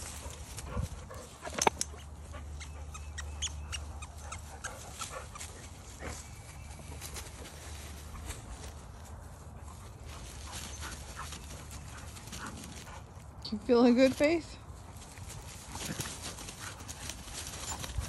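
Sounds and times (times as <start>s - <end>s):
rustling in grass: 0.0s - 18.0s.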